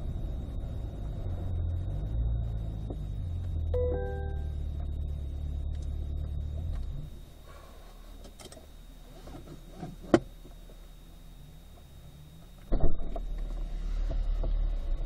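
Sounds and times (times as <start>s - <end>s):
car engine idling inside cabin: 0.0s - 15.0s.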